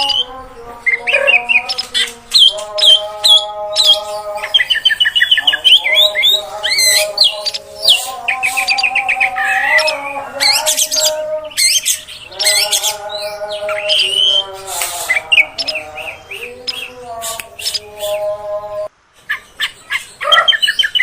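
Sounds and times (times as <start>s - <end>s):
bird singing whistles and trills: 0.0s - 18.2s, 19.3s - 21.0s.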